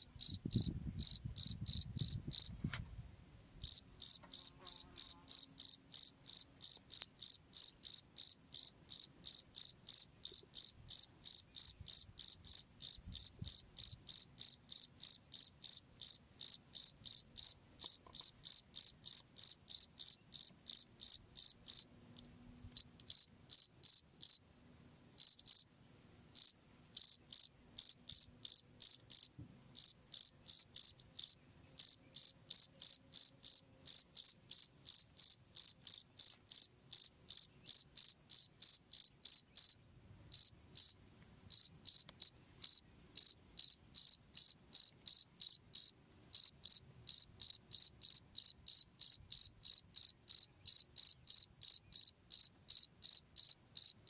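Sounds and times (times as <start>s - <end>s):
cricket chirping: 0.0s - 2.5s, 3.6s - 24.4s, 25.2s - 54.0s.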